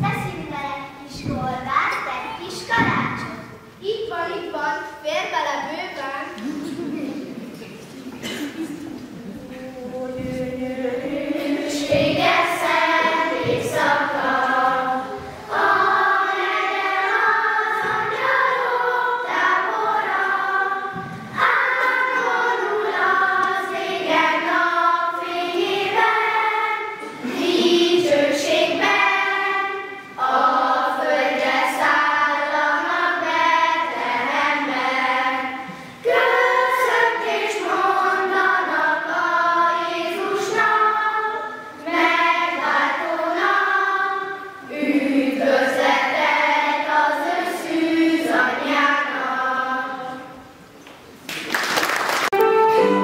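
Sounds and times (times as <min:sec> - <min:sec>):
children's choir singing: 0:00.0 - 0:03.7, 0:06.4 - 0:53.0.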